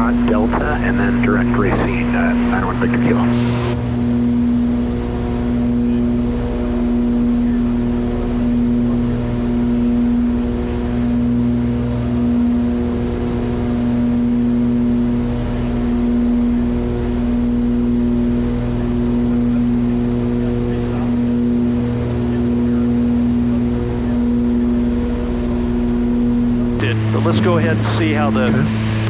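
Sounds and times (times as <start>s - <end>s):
propeller engines droning: 0.0s - 29.0s.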